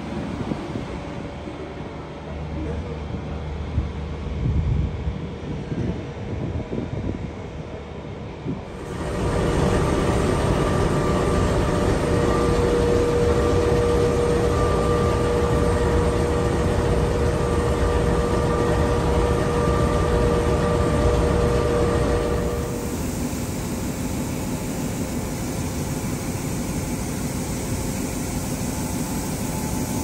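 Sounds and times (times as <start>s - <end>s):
diesel locomotive idling: 0.0s - 4.4s, 8.7s - 30.0s
constant high hum: 0.0s - 30.0s.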